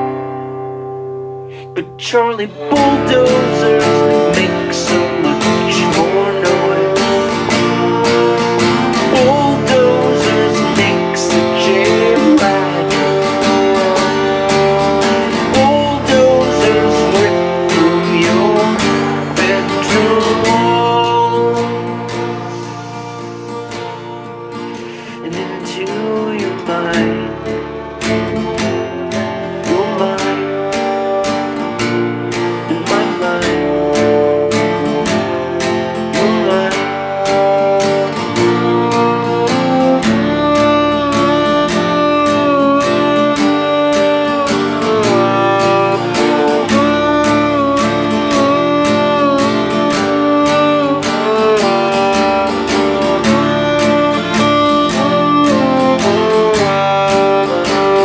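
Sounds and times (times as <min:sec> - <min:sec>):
acoustic guitar strumming: 0:00.0 - 0:58.0
violin melody: 0:00.0 - 0:58.0.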